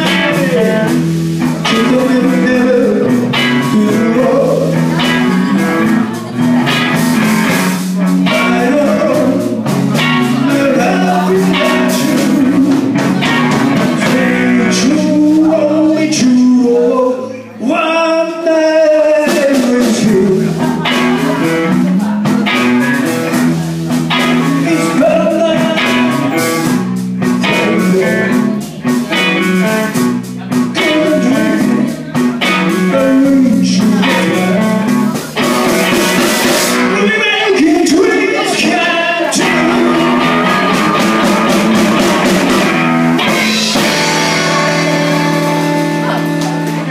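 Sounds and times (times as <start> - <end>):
live rock band playing: 0.0 - 46.9
person singing: 0.0 - 46.9.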